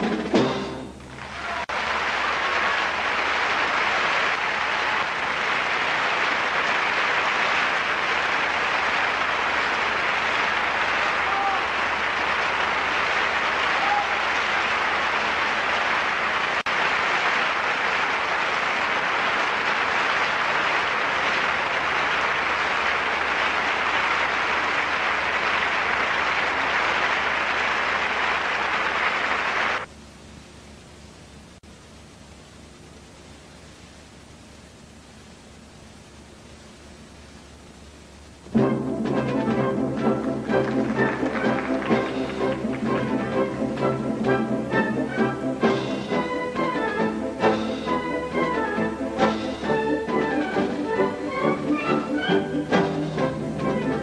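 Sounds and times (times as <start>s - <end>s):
audience applauding: 1.0s - 29.9s, 39.4s - 54.0s.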